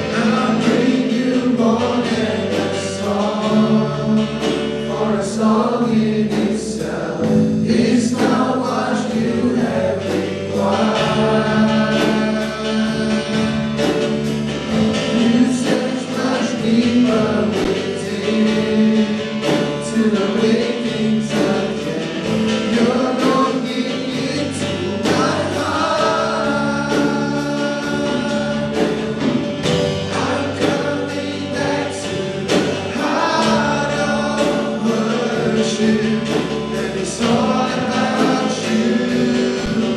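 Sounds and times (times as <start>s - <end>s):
choir singing gospel song: 0.0s - 39.9s
instrumental accompaniment with beat: 0.0s - 39.9s.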